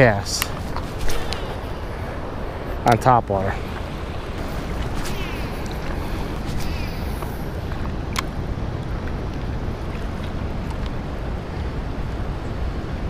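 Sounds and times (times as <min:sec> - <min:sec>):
river water running: 0:00.0 - 0:13.0
wind rumble on microphone: 0:00.0 - 0:13.0.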